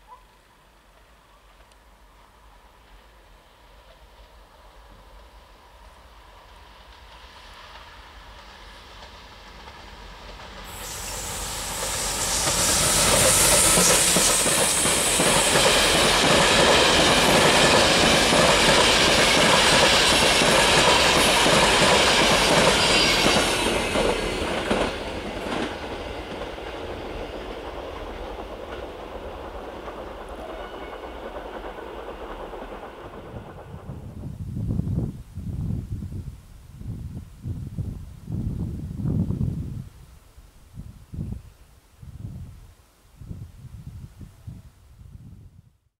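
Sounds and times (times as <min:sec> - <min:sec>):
train passing at speed: 0:00.4 - 0:39.9.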